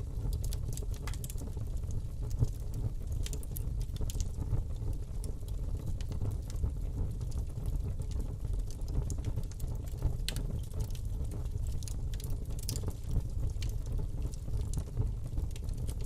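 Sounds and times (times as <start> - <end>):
fire crackling in fireplace: 0.0 - 16.0.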